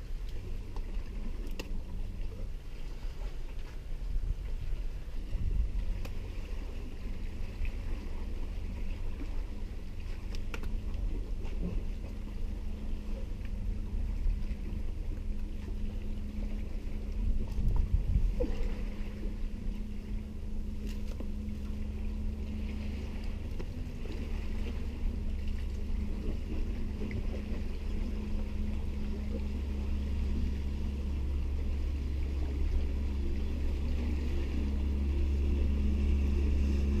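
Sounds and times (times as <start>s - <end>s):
motorboat engine drone: 0.0s - 37.0s.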